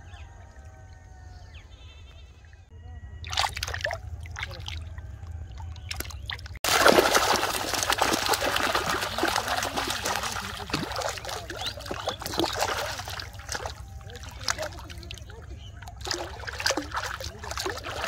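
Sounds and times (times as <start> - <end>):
fish splashing in water: 3.2 - 18.0.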